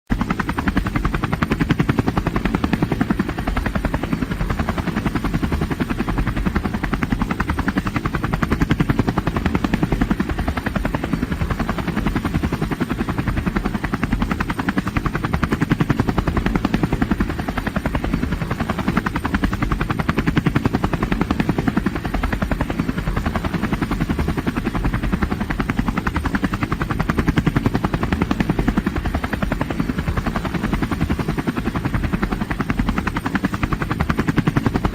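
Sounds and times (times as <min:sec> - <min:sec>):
engine and turbine noise: 0:00.1 - 0:34.9
helicopter rotor blades chopping: 0:00.1 - 0:34.9.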